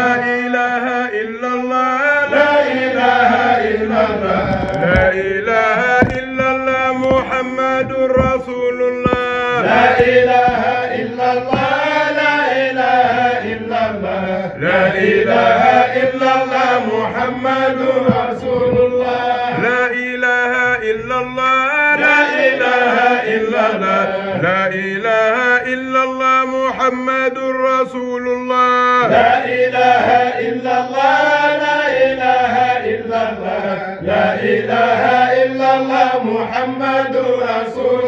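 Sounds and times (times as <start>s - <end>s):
voices chanting: 0.0s - 25.2s, 29.0s - 38.0s.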